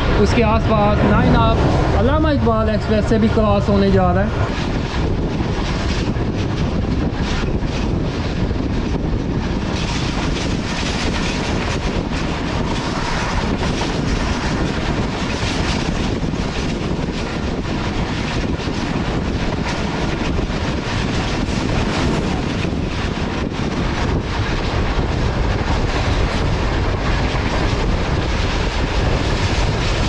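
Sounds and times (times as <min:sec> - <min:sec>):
rushing air: 0:00.0 - 0:30.0
train wheels rumbling on rails: 0:00.0 - 0:30.0.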